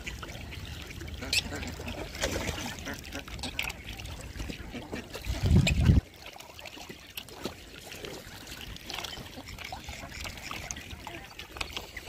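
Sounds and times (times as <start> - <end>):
birds splashing in water: 0.0 - 12.0.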